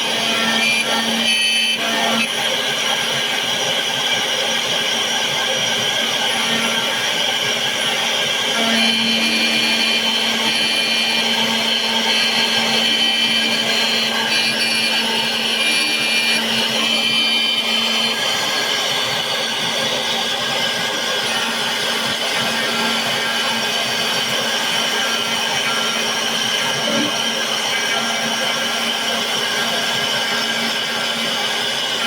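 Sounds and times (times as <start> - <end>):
cutter grinding metal: 0.0 - 32.0
motor whine: 0.0 - 32.0.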